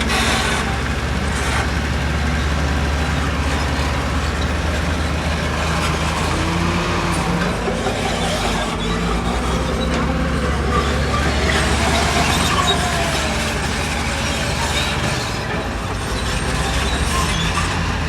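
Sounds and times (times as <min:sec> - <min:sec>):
heavy diesel machinery engine: 0:00.0 - 0:18.0.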